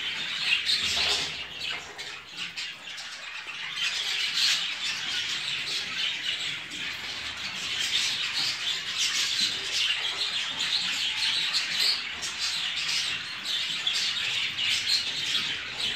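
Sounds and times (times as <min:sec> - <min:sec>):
budgerigars chattering and chirping: 0:00.0 - 0:15.9.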